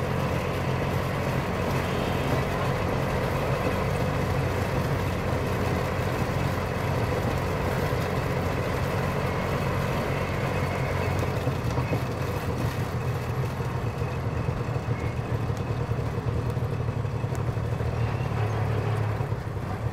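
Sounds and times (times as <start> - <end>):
auto rickshaw engine running: 0.0 - 19.9.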